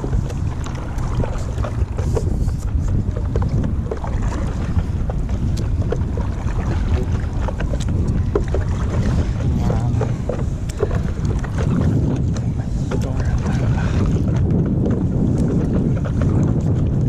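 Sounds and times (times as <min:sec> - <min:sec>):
paddle splashing water: 0:00.0 - 0:17.0
wind buffeting microphone: 0:00.0 - 0:17.0.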